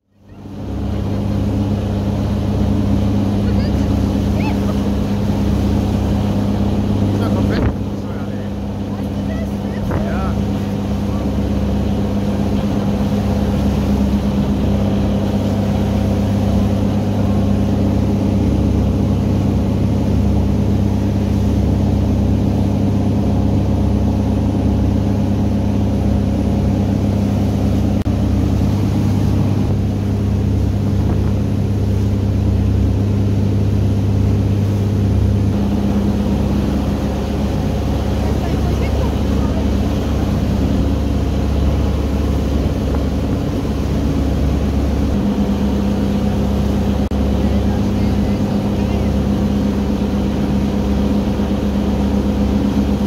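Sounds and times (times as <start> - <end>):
boat engine droning: 0.0 - 53.0
wake water churning: 0.3 - 53.0.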